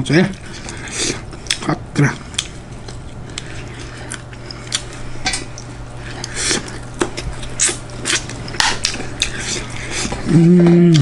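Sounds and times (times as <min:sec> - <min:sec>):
steady low hum: 0:00.0 - 0:11.0
chewing food: 0:00.1 - 0:11.0.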